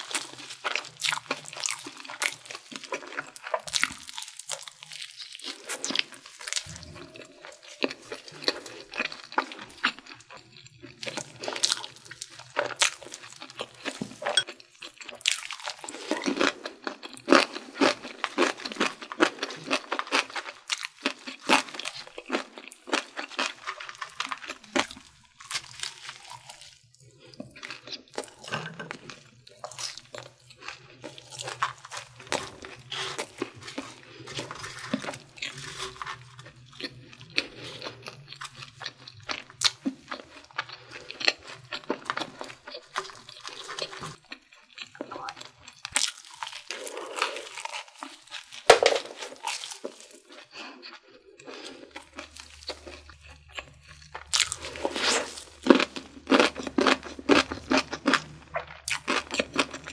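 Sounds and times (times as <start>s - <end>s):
crunching and chewing food: 0.0s - 59.9s.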